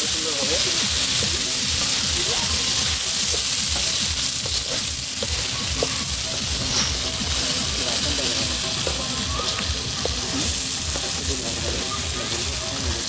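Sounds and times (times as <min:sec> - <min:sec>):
food sizzling in hot oil: 0:00.0 - 0:13.0
spatula scraping a wok: 0:00.5 - 0:11.2.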